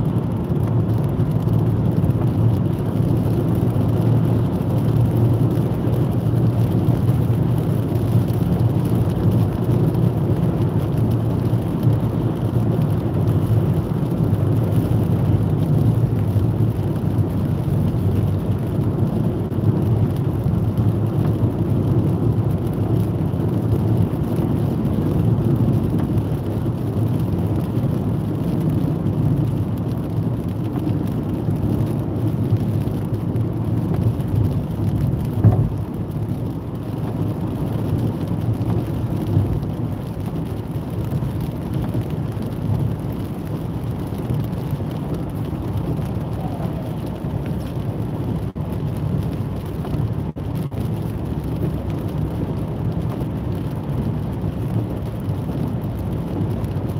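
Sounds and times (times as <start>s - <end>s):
car running drone: 0.0s - 56.9s
tyres on wet asphalt: 0.0s - 56.9s.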